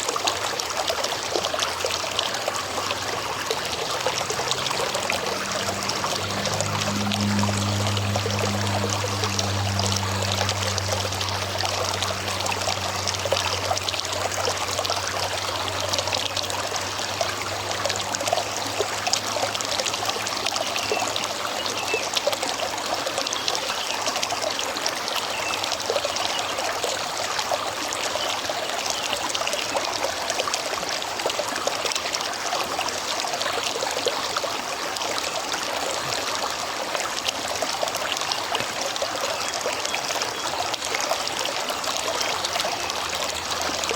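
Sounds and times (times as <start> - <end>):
river flowing over rocks: 0.0 - 43.9.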